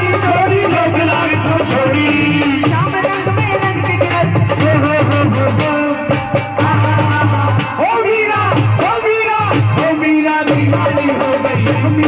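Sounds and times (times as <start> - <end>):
drum and instrumental accompaniment: 0.0 - 12.0
woman singing: 0.0 - 12.0.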